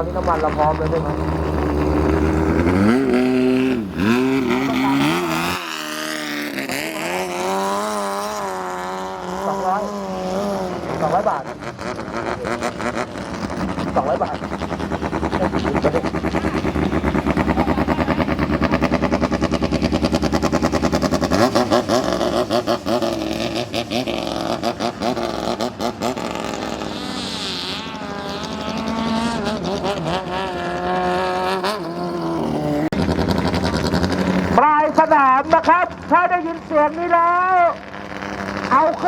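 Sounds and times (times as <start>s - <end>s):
speedboat engine revving: 0.0s - 39.0s.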